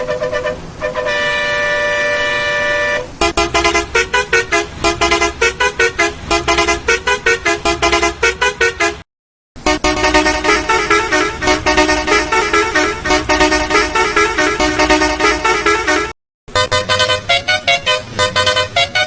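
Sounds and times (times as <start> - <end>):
bus horn honking: 0.0 - 19.0.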